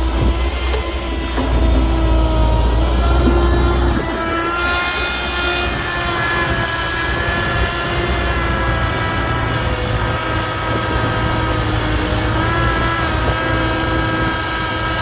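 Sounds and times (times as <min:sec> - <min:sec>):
excavator engine rumbling: 0:00.0 - 0:15.0
wavering whine: 0:00.0 - 0:15.0.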